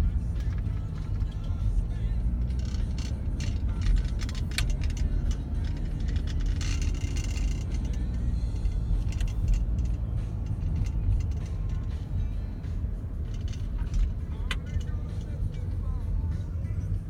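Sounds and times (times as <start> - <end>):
car engine and road noise: 0.0 - 17.0
rattles and clicks: 0.0 - 17.0.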